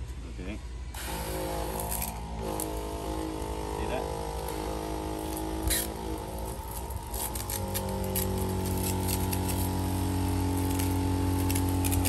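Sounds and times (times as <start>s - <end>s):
electric pump humming: 0.0s - 12.0s
water spraying from wand: 1.0s - 12.0s.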